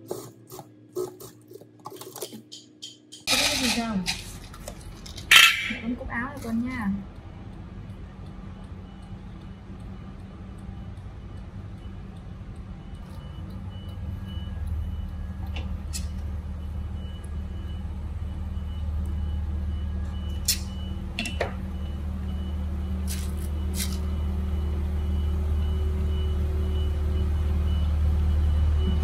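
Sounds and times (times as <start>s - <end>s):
low engine-like hum: 2.4s - 29.0s.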